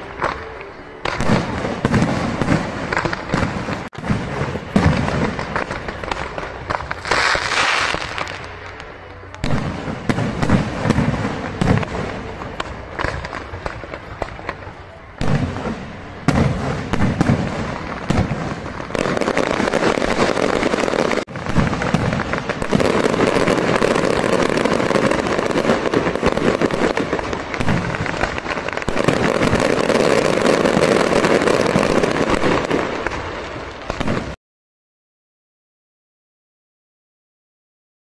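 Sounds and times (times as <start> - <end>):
fireworks bangs and crackles: 0.0 - 34.4.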